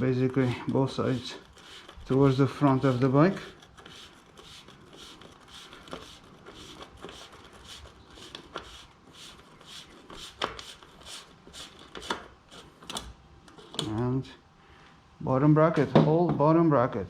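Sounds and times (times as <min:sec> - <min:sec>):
tool scraping and clicking on metal threads: 0:00.2 - 0:14.1.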